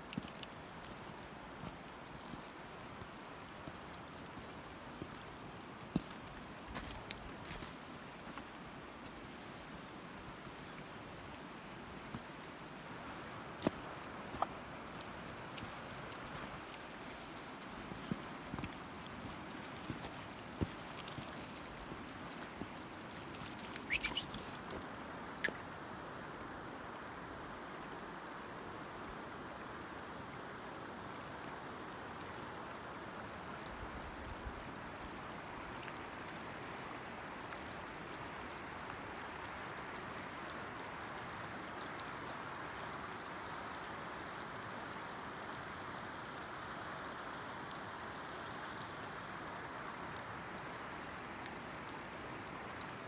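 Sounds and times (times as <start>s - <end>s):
river rushing over cobbles: 0.0s - 53.0s.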